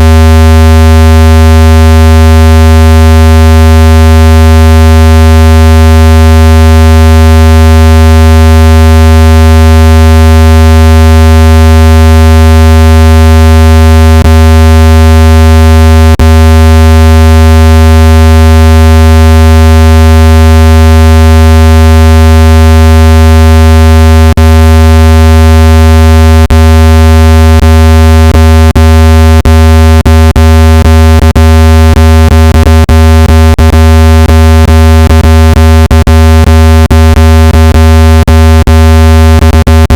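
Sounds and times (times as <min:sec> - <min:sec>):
low buzzing electronic tone: 0:00.0 - 0:39.9.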